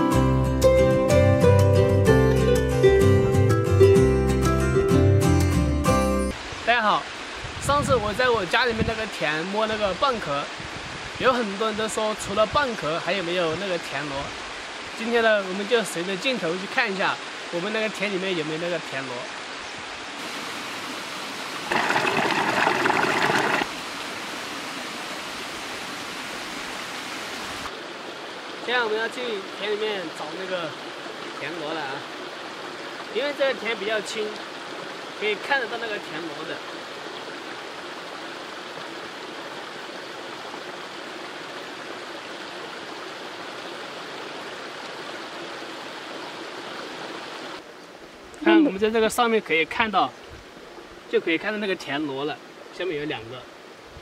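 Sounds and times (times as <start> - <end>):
rush of water: 6.3 - 54.0
stream running: 6.3 - 54.0.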